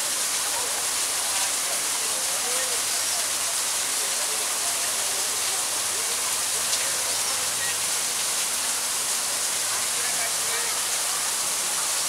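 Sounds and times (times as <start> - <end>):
waterfall pouring into pond: 0.0 - 12.0.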